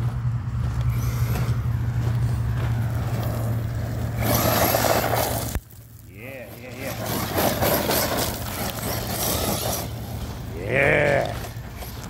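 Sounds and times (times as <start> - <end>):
rc truck low rumble: 0.0 - 12.0
tyres rushing over gravel: 1.2 - 12.0.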